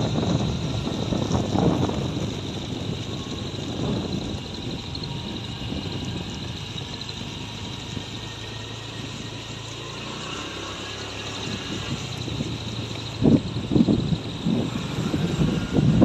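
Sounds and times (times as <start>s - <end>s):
vehicle engine humming: 0.0s - 16.0s
wind and road noise: 0.0s - 16.0s.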